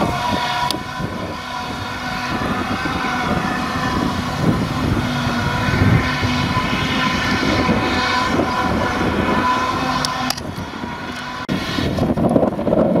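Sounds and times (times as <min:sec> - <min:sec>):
high steady whine: 0:00.0 - 0:12.9
forage harvester engine drone: 0:00.0 - 0:13.0.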